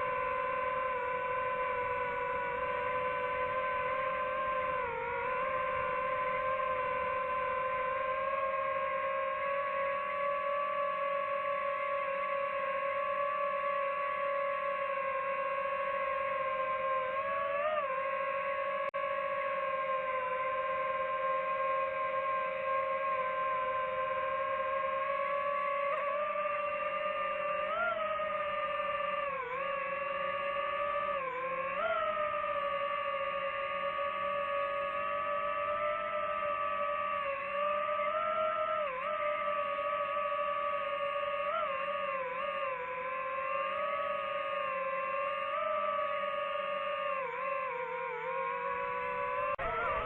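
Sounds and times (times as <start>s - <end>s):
drone motors whining: 0.0s - 50.0s.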